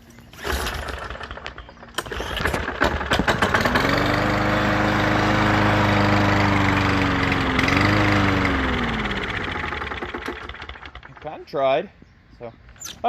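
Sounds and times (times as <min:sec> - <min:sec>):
lawn mower engine starting: 0:00.2 - 0:11.6.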